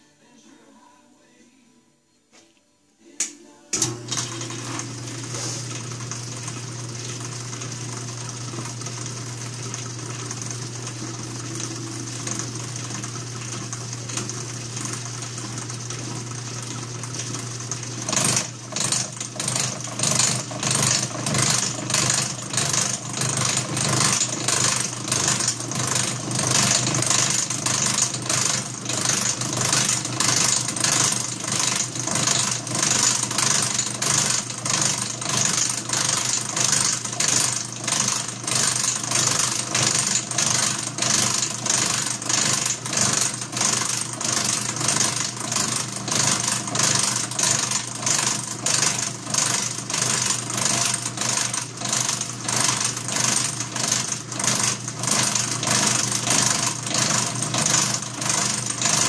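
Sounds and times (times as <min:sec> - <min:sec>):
milling machine humming: 0:03.7 - 0:59.0.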